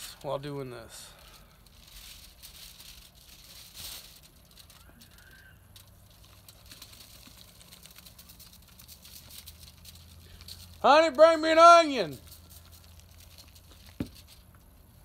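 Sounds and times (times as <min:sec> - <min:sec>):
aluminium foil crinkling: 0:00.0 - 0:15.0
seasoning shaker rattling: 0:01.4 - 0:15.0.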